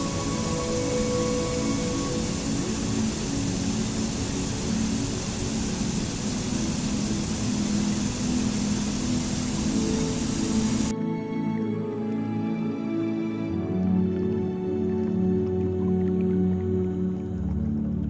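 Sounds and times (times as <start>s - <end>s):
droning music tones: 0.0s - 18.0s
rushing water: 0.0s - 18.0s.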